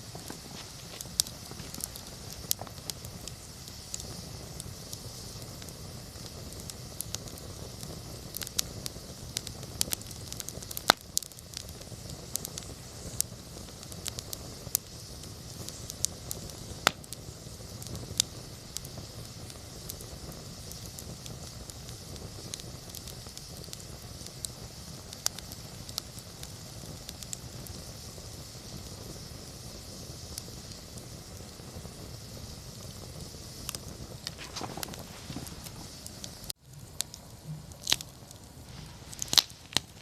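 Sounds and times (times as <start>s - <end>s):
campfire crackling and popping: 0.0s - 40.0s
fire hiss: 0.0s - 40.0s
low fire rumble: 0.0s - 40.0s.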